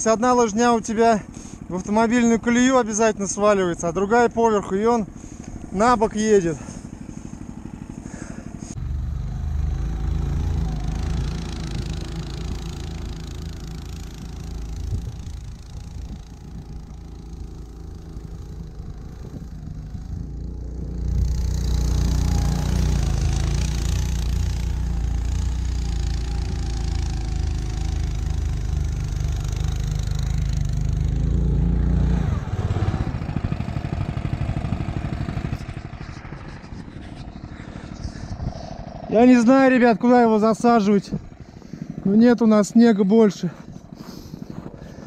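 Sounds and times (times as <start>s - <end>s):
snowmobile engine revving: 0.0s - 45.0s.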